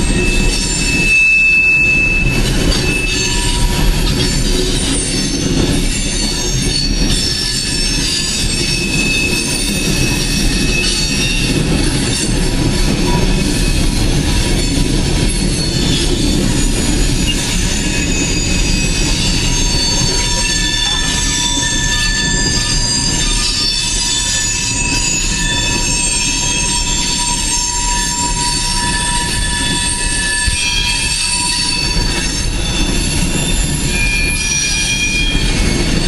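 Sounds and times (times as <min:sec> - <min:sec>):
train wheels squealing: 0:00.0 - 0:36.0.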